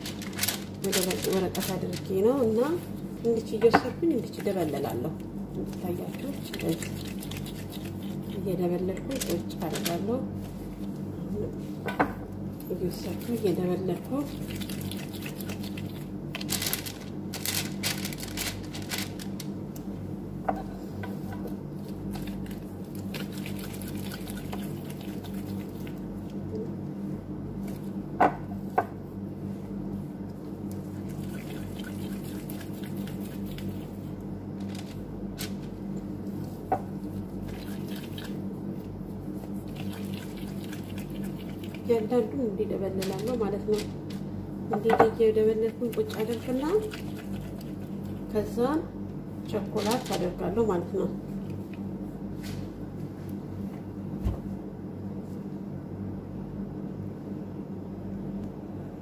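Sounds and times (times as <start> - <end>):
dough rustles and squishes: 0.0 - 48.6, 49.4 - 54.6
steady low hum: 0.0 - 59.0.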